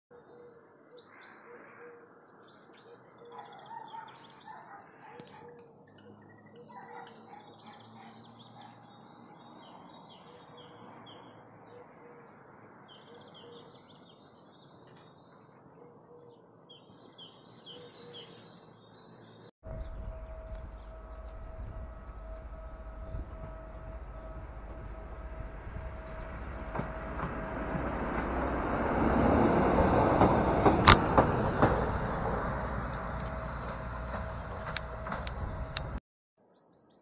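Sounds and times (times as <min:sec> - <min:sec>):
songbirds chirping: 0:00.1 - 0:30.6, 0:32.6 - 0:37.0.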